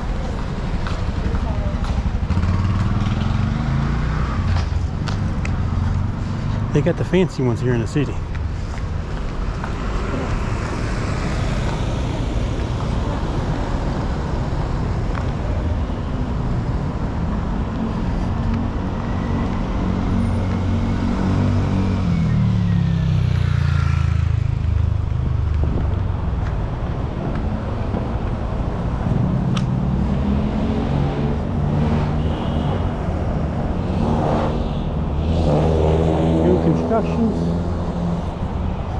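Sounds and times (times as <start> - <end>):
street traffic: 0.0 - 38.9.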